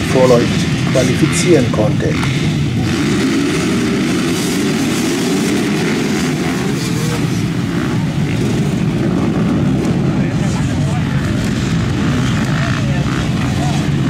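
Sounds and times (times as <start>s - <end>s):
motorcycle engines droning: 0.0s - 14.0s.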